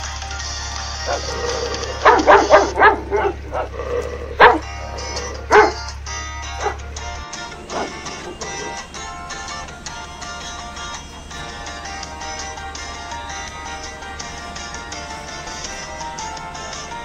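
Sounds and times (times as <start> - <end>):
background music: 0.0 - 17.0
puppies yipping and barking: 0.7 - 17.0.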